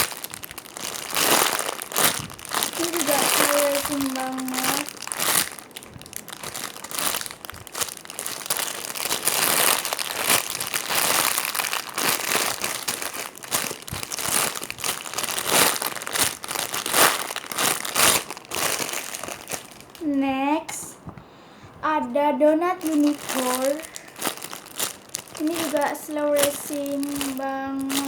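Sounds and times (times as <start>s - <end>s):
foam squishy toy crinkling: 0.0s - 20.3s, 22.6s - 28.0s.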